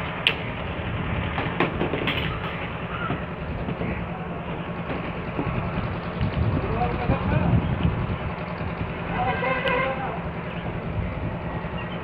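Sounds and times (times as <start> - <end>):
work site rumble: 0.0 - 12.0.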